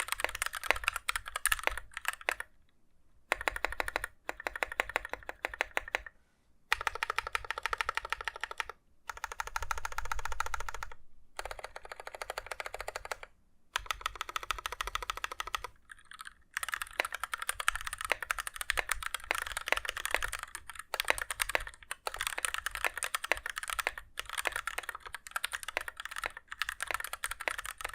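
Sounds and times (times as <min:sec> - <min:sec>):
mechanical keyboard typing: 0:00.0 - 0:02.5, 0:03.3 - 0:06.1, 0:06.7 - 0:27.9.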